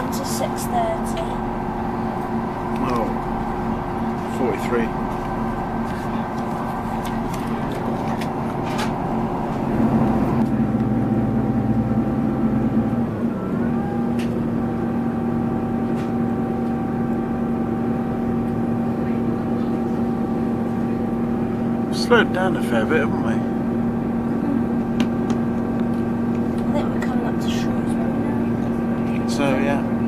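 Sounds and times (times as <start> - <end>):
train diesel engine drone: 0.0 - 30.0.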